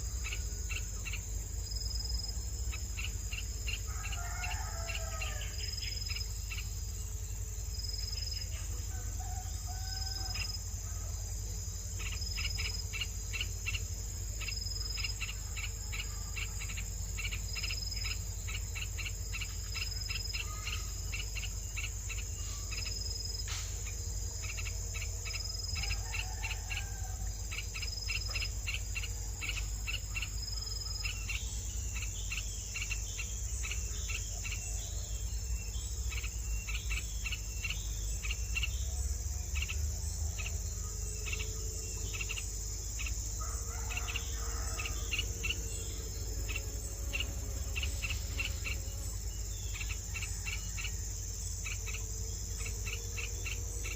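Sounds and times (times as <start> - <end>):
insects chirping: 0.0 - 53.9
faint bird calls: 8.0 - 53.9.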